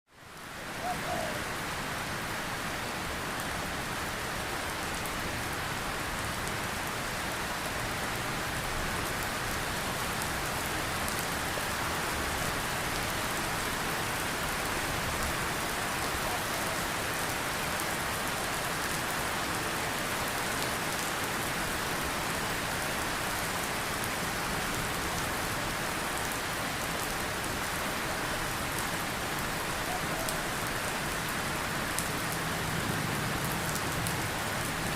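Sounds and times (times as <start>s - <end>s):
heavy rain pattering: 0.3s - 34.9s.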